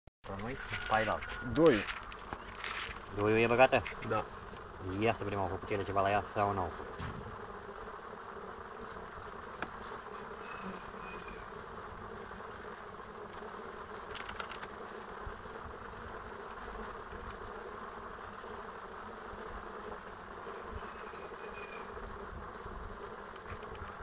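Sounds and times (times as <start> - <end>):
honeybees humming: 0.2 - 24.0.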